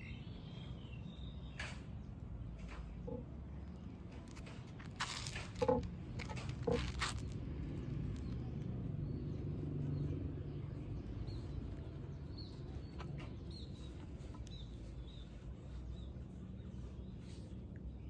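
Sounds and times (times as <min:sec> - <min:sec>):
low background rumble: 0:00.0 - 0:18.0
small birds chirping: 0:00.0 - 0:18.0.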